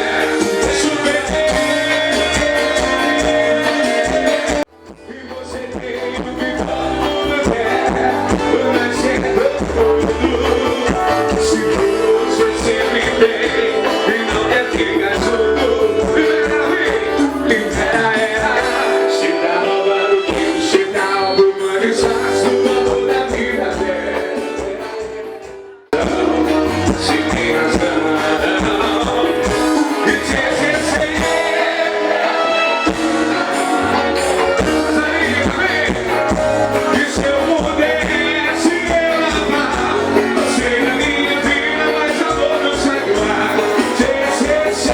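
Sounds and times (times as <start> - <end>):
live band music with singing: 0.0 - 44.9.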